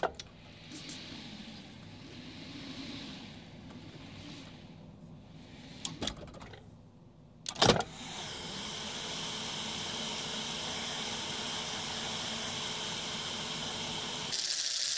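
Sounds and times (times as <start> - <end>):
mechanical hum with hiss: 0.0 - 14.9.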